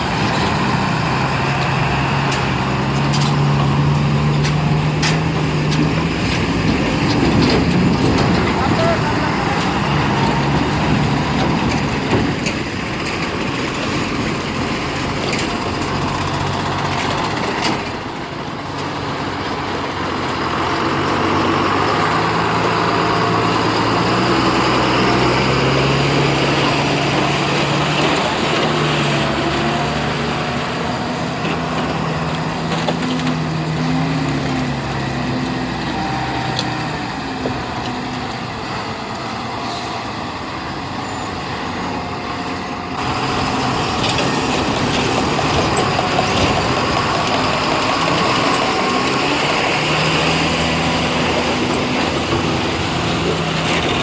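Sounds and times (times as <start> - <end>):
diesel truck engines: 0.0 - 54.0.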